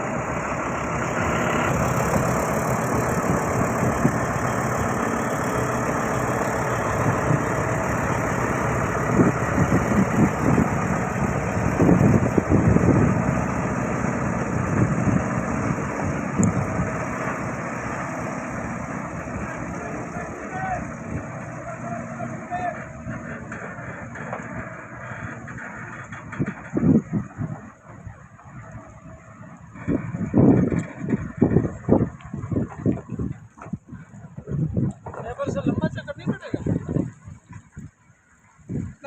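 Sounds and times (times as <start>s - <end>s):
large vehicle engine running: 0.0s - 38.0s
low thumps and rumbles: 0.0s - 38.0s.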